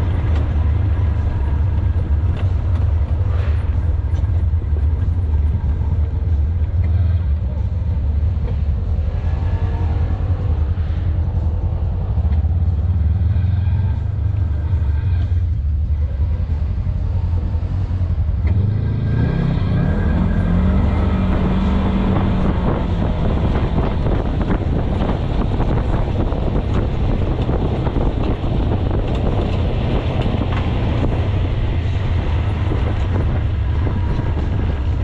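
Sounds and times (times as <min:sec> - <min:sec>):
off-road vehicle engine running: 0:00.0 - 0:35.0
road and wind noise: 0:00.0 - 0:35.0.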